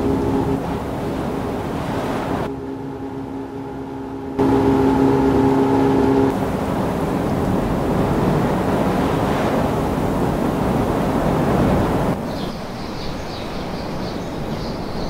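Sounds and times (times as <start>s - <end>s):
motorboat engine hum: 0.0s - 15.0s
rushing wind and water: 0.0s - 15.0s.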